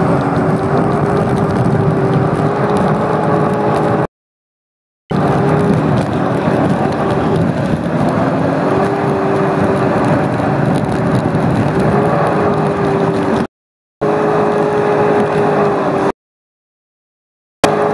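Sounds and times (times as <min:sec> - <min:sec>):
watercraft engine whining: 0:00.0 - 0:04.1, 0:05.1 - 0:16.1, 0:17.6 - 0:17.9.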